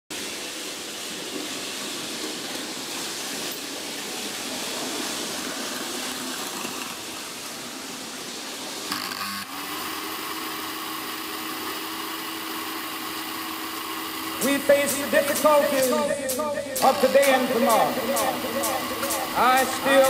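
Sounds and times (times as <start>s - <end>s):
model train rolling on metal track: 0.2s - 9.0s, 9.9s - 20.0s.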